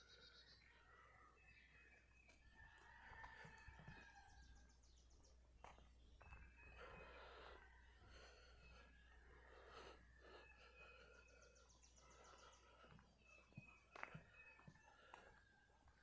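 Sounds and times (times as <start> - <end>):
distant bird calls: 0.0 - 16.0.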